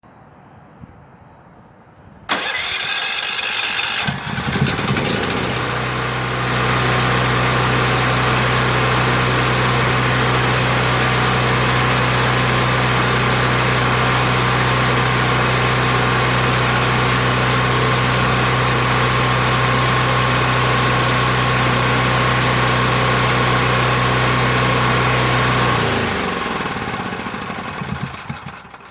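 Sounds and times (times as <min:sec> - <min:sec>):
generator engine running: 0:02.3 - 0:28.9.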